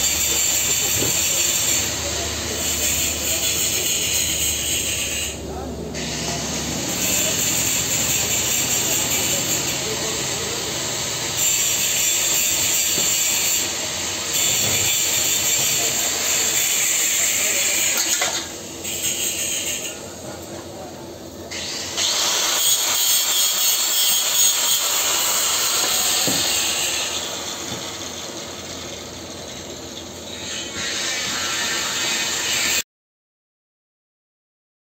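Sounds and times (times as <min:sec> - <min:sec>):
welding arc hissing: 0:00.0 - 0:05.4, 0:06.0 - 0:20.2, 0:21.5 - 0:32.8.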